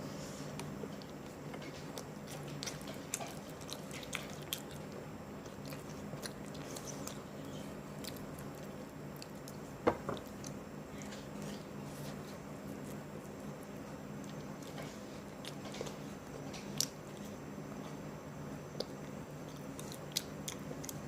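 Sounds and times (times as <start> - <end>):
person chewing and biting food: 0.5 - 17.4, 18.7 - 21.0.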